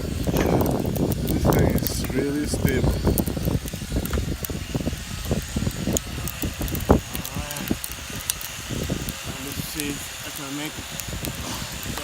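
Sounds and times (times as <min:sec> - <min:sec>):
drone motors whining: 0:00.0 - 0:12.0
wind buffeting microphone: 0:00.0 - 0:12.0.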